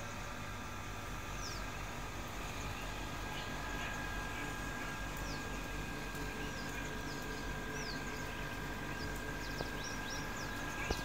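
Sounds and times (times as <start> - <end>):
low background hum: 0.0 - 11.0
birds chirping: 1.3 - 1.8, 2.4 - 11.0.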